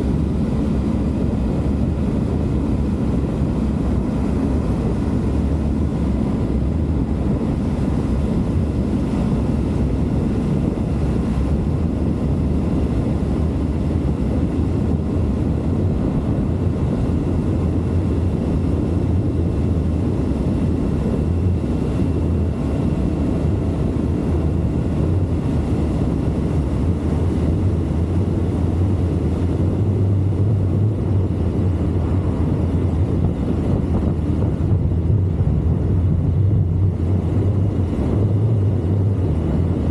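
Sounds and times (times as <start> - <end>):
steady low hum: 0.0 - 39.9
wind and road noise: 0.0 - 39.9.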